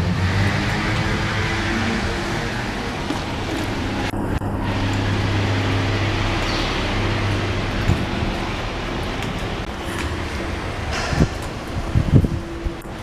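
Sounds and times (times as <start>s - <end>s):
street traffic noise: 0.0s - 13.0s
vehicle engine low hum: 0.0s - 13.0s.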